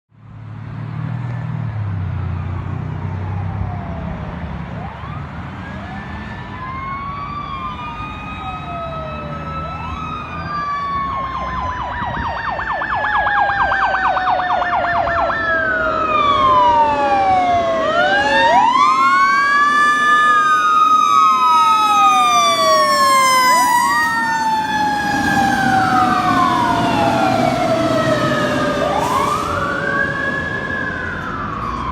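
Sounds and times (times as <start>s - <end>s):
electronic siren wail and yelp: 3.3s - 31.9s.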